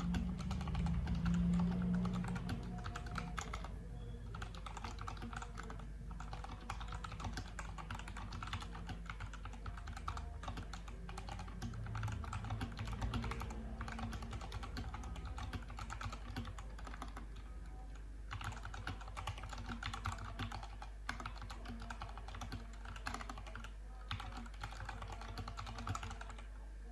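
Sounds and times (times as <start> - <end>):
mechanical keyboard keys clacking: 0.0 - 3.7, 4.3 - 17.2, 18.3 - 26.4.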